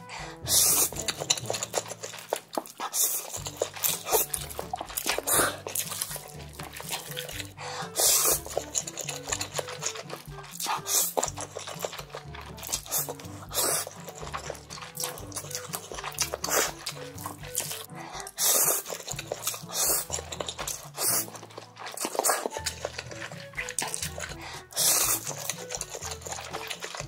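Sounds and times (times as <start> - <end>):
background music with bass line: 0.0 - 2.4, 3.4 - 22.0, 22.6 - 27.0
slurping and chewing: 0.0 - 27.0.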